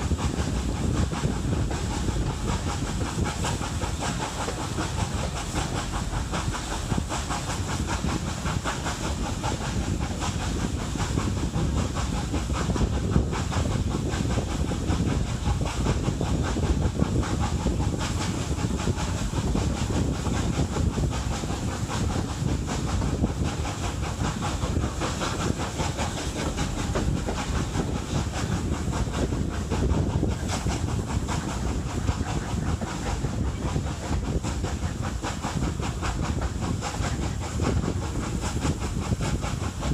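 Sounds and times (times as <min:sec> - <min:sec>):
steam hissing: 0:00.0 - 0:39.9
steam locomotive chuffing: 0:00.0 - 0:39.9
train wheels on rails: 0:00.0 - 0:39.9.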